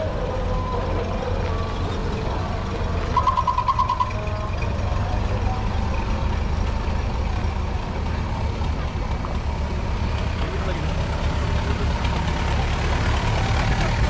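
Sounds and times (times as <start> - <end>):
cars passing on dirt street: 0.0 - 14.0.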